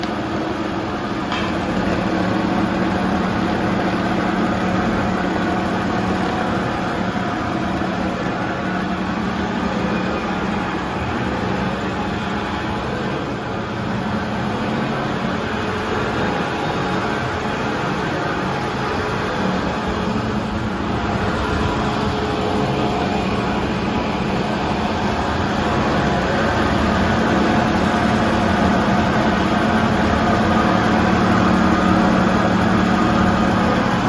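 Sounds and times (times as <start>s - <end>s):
foam-cutting machine running: 0.0s - 34.0s.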